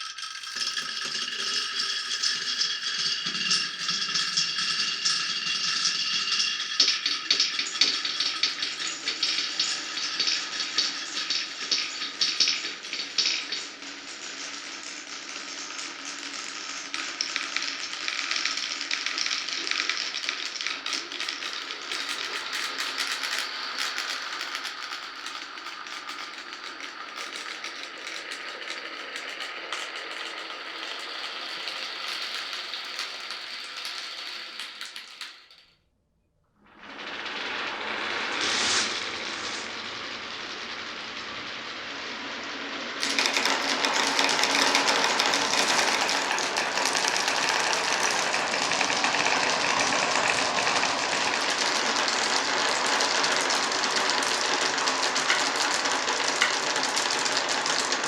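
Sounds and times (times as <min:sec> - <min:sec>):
glass marbles rolling and clattering: 0:00.0 - 0:35.7, 0:36.8 - 0:58.0.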